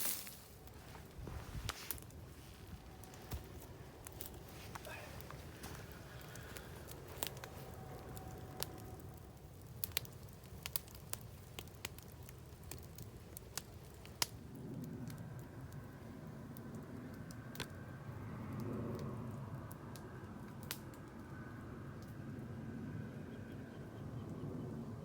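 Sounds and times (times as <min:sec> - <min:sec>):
campfire crackling and popping: 0:00.0 - 0:21.4
low steady rumble: 0:00.0 - 0:25.0.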